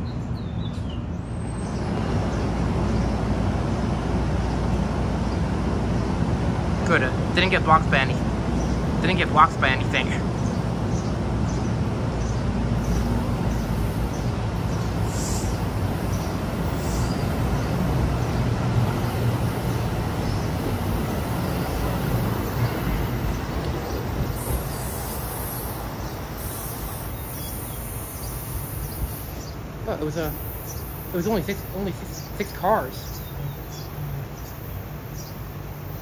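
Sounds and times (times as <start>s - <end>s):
train wheels rumbling on rails: 0.7s - 36.0s.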